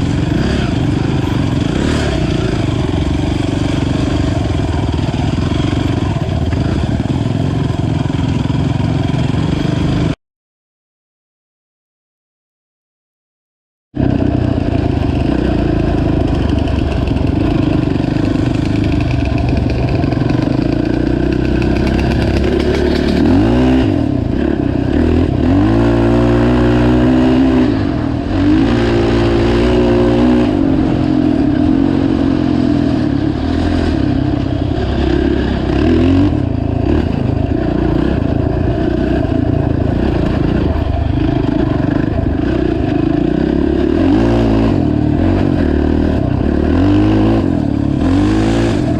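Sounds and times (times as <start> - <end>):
atv engine revving: 0.0 - 10.2, 14.0 - 48.9.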